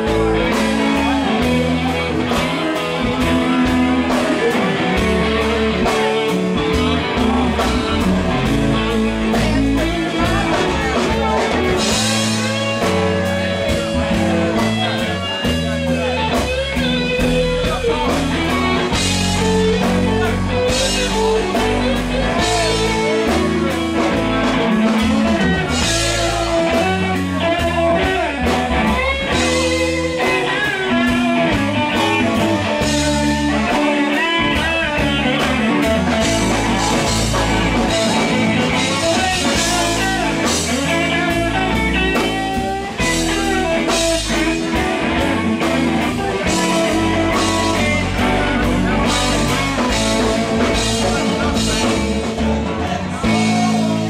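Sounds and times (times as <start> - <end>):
bass guitar: 0.0 - 54.0
drum kit beat: 0.0 - 54.0
electric lead guitar: 0.0 - 54.0.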